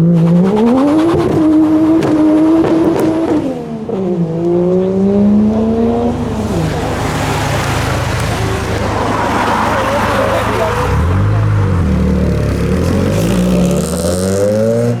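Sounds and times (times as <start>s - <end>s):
noisy rush: 0.0s - 13.6s
car engine accelerating: 0.0s - 15.0s.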